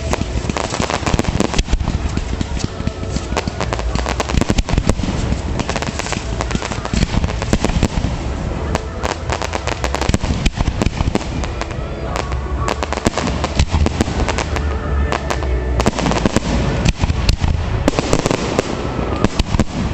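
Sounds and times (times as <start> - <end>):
fireworks bangs and crackling: 0.0 - 19.9.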